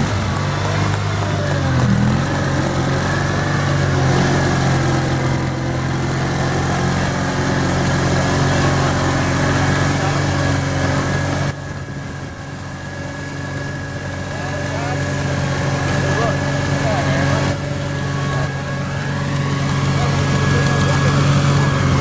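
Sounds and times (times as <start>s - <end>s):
garden tractor engine running: 0.0s - 22.0s.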